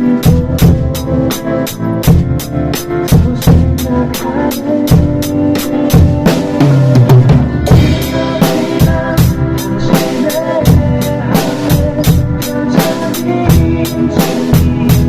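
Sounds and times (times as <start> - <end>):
drum kit playing steady beat: 0.0 - 15.0
worship song backing track: 0.0 - 15.0.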